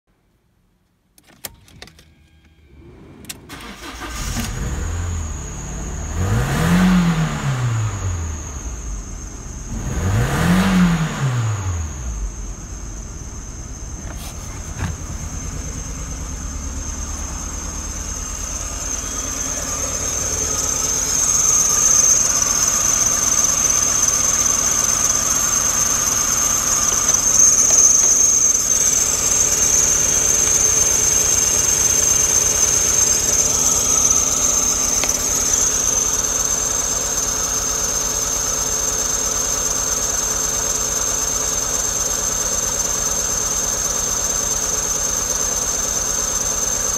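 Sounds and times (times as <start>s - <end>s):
high-pitched whine: 2.3s - 46.9s
car engine idling: 2.7s - 46.9s.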